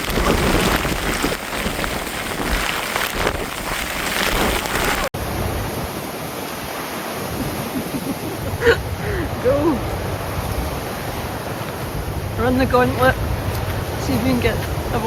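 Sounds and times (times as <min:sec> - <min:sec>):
rain: 0:00.0 - 0:15.0
sea surf: 0:00.0 - 0:15.0
wind buffeting microphone: 0:00.0 - 0:15.0.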